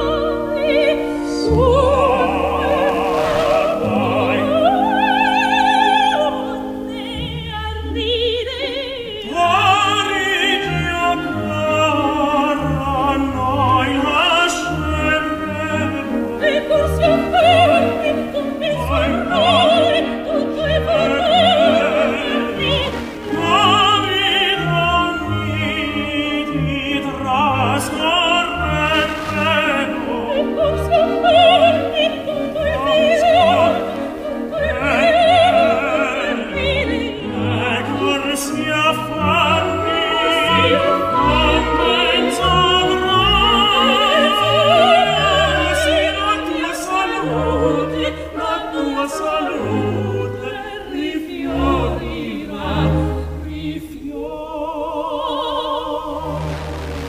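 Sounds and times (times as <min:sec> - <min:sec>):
opera singer with vibrato: 0:00.0 - 0:57.0.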